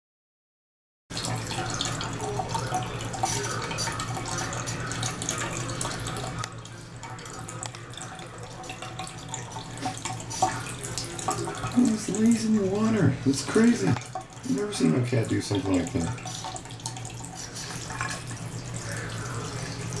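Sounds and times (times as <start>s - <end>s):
water running from a faucet: 1.1s - 20.0s
water splashing: 1.1s - 20.0s.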